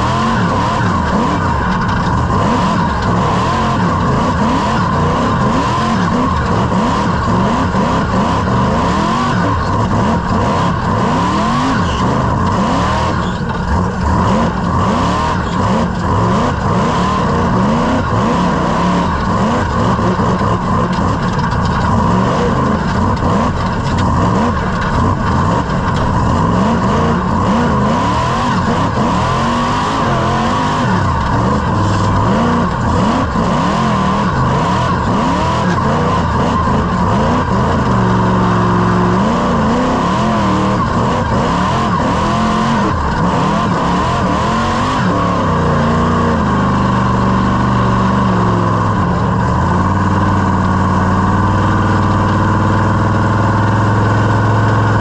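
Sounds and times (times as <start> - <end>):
supercharged engine revving: 0.0 - 55.0.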